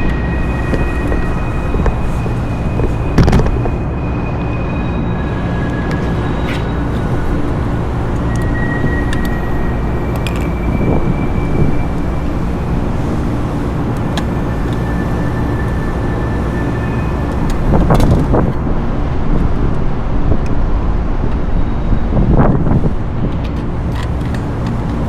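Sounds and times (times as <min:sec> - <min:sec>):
mechanical rumble and hum: 0:00.0 - 0:25.0.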